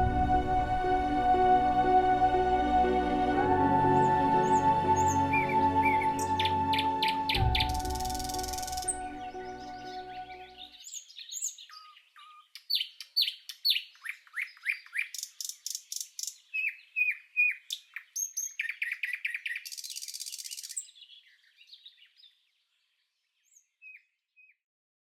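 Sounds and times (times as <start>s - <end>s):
nightingale singing: 2.1s - 22.4s.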